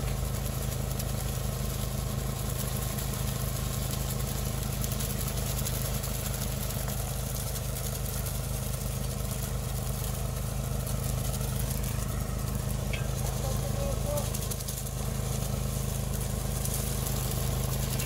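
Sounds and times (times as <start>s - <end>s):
tractor engine running under load: 0.0s - 18.0s.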